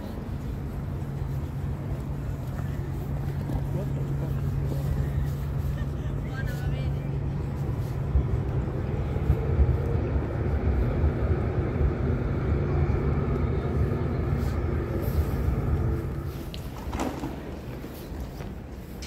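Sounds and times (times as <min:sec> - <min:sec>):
vehicle engine running: 0:00.4 - 0:16.8.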